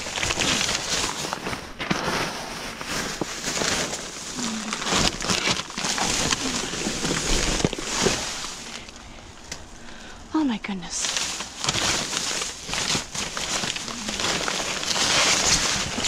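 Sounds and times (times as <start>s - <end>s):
plastic bags rustling: 0.0s - 16.0s.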